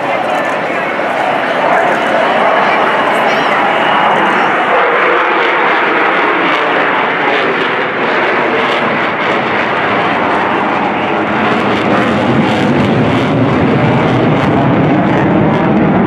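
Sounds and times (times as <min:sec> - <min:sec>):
afterburner rumble: 0:00.0 - 0:16.0
jet engine roaring: 0:00.0 - 0:16.0.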